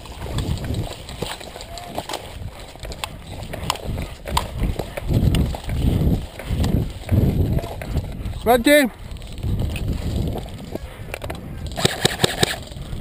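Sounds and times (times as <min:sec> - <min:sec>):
footsteps through dry grass: 0:00.0 - 0:13.0.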